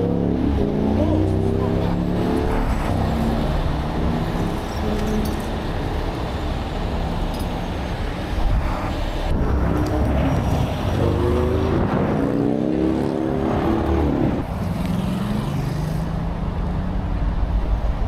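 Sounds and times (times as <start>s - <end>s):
freeway traffic rushing past: 0.0s - 18.0s.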